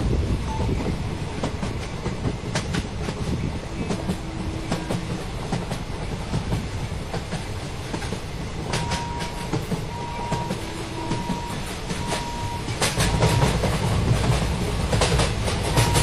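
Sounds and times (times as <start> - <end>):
passenger train rumble: 0.0 - 16.0
wheels clicking over rail joints: 0.6 - 16.0.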